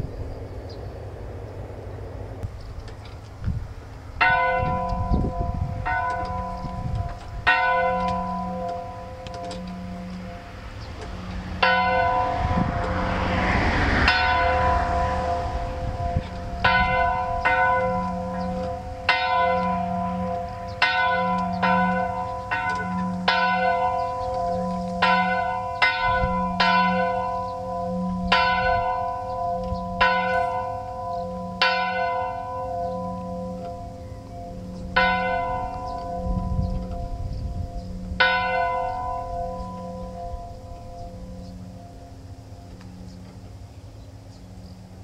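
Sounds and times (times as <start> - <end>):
church bell ringing: 4.2 - 45.0.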